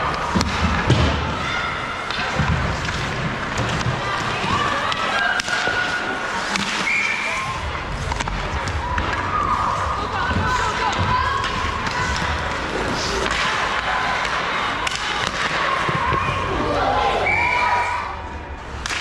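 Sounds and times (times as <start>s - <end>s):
murmur of voices: 0.0s - 18.8s.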